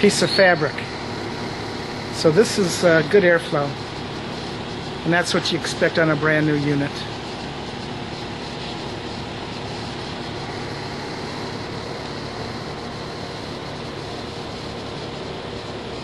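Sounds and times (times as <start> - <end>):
air conditioner fan whooshing: 0.0 - 16.0
faint hum: 0.0 - 16.0.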